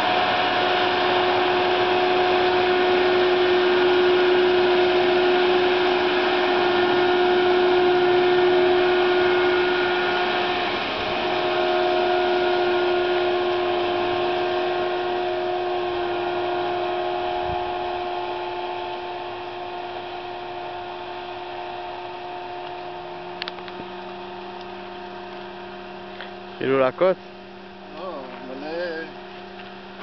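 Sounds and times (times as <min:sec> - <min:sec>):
crop sprayer engine droning: 0:00.0 - 0:30.0.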